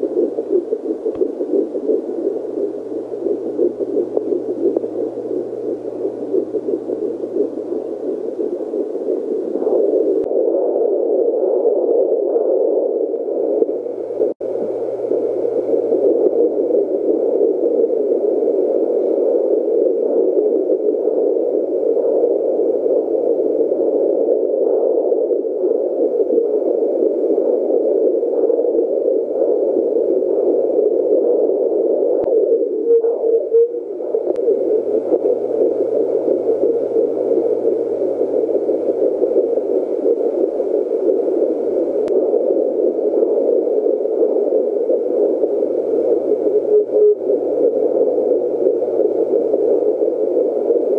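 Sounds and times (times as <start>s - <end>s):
doppler rushing ultrasound noise: 0.0s - 50.9s
faint hum: 0.0s - 50.9s.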